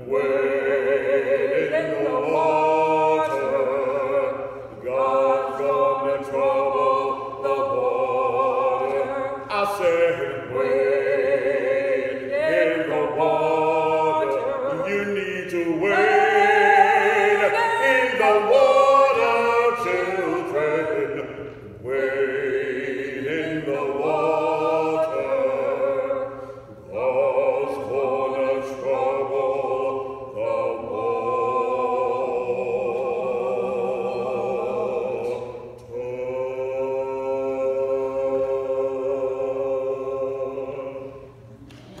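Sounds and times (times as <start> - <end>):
man and woman singing: 0.0 - 41.3.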